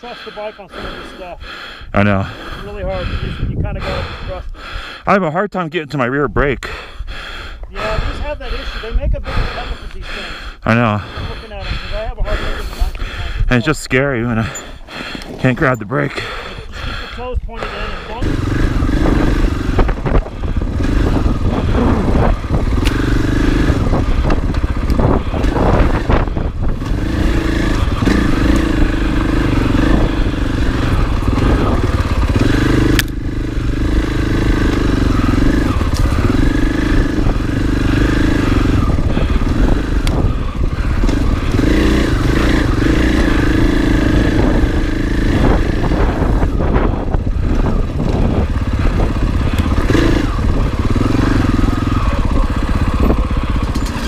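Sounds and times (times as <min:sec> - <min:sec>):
dirt bike engine revving: 0:06.6 - 0:54.0.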